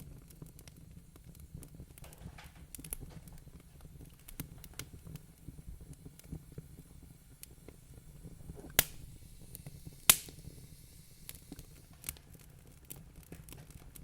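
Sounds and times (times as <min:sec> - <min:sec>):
sharp pops of burning wood: 0:00.0 - 0:14.0
wood fire crackling: 0:00.0 - 0:14.0.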